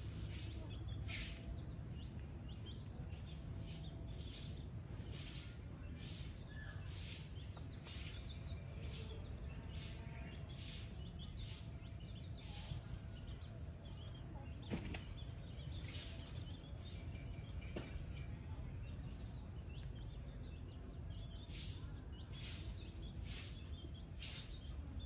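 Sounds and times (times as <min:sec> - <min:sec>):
chicks peeping: 0:00.0 - 0:17.7, 0:18.8 - 0:25.0.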